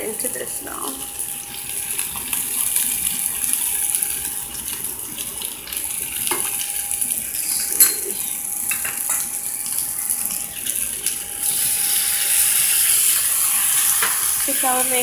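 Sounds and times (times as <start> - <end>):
chicken sizzling in skillet: 0.0 - 15.0.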